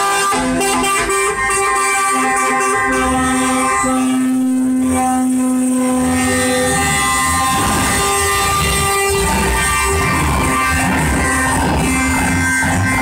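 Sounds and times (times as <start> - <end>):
diesel truck engines rumbling: 0.0 - 13.0
truck air horns blowing: 0.0 - 13.0.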